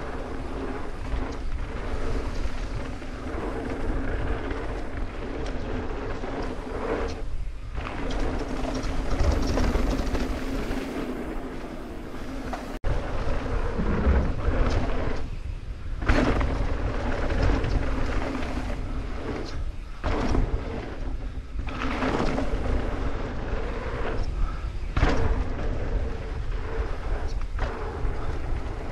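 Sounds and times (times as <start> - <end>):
tyres rumbling on dirt: 0.0 - 28.9
wind buffeting microphone: 0.0 - 28.9.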